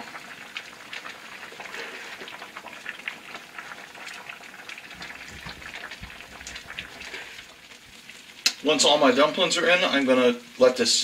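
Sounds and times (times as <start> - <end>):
soup bubbling at a boil: 0.0 - 11.0.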